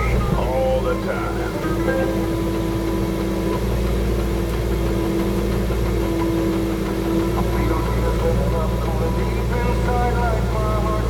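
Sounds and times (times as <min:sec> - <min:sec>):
mini excavator running: 0:00.0 - 0:11.0
steady mower whine: 0:00.0 - 0:11.0.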